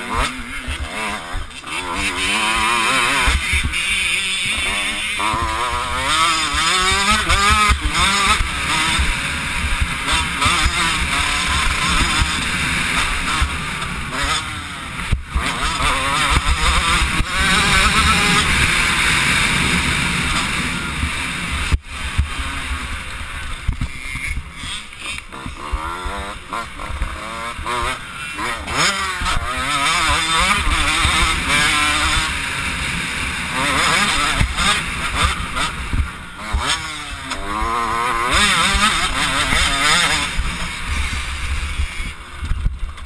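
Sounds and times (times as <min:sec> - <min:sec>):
two-stroke motorbike engine revving: 0:00.0 - 0:43.0.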